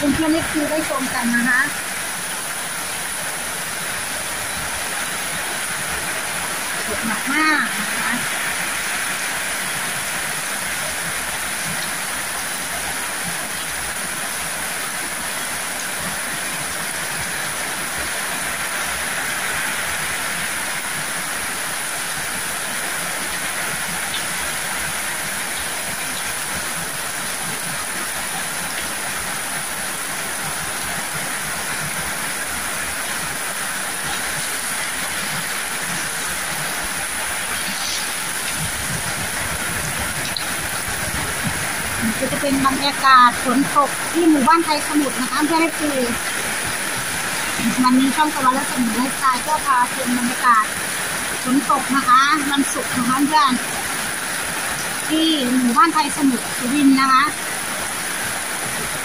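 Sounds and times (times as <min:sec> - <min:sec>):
heavy rain falling: 0:00.0 - 0:59.0
rain splashing on concrete: 0:00.0 - 0:59.0
water pouring off roof edges: 0:00.0 - 0:59.0.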